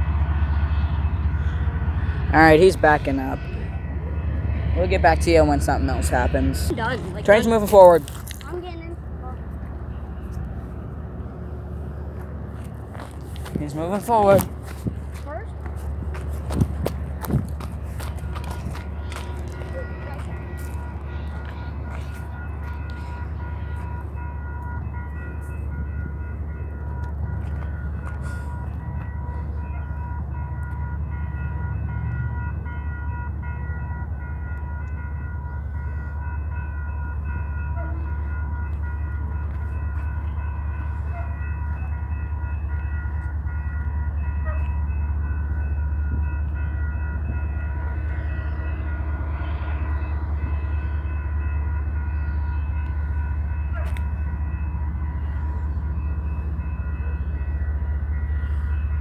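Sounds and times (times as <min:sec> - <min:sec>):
constant high whine: 0:00.0 - 0:59.0
diesel locomotive rumble: 0:00.0 - 0:59.0.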